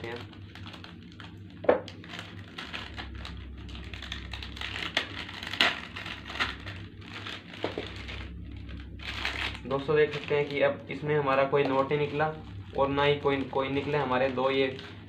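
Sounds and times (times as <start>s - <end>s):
plastic snack pouch crinkling: 0.0s - 10.6s, 11.7s - 15.0s.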